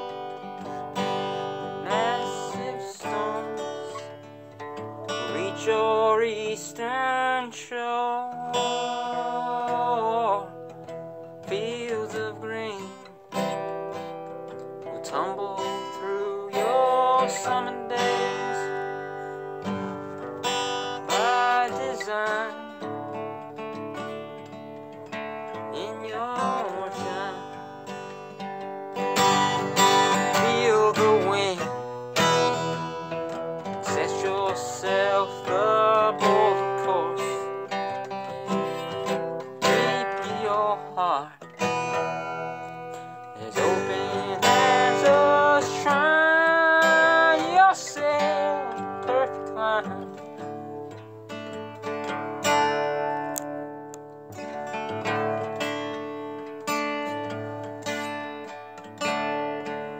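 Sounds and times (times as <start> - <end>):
person singing: 0.0 - 23.2, 25.1 - 28.4, 29.2 - 51.1
acoustic guitar strumming: 0.0 - 59.9.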